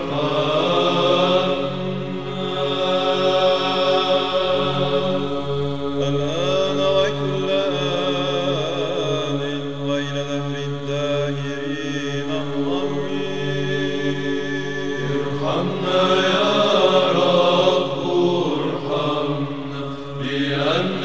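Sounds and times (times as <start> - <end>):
chanted voices holding long notes: 0.0 - 21.0
steady low drone: 0.0 - 21.0.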